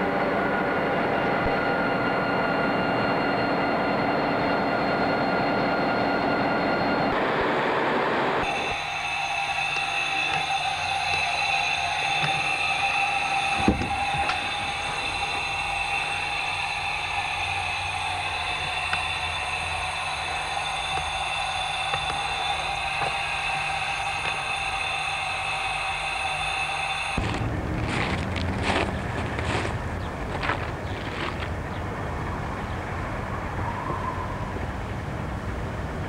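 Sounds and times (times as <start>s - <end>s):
locomotive idling whine and hum: 0.0s - 36.0s.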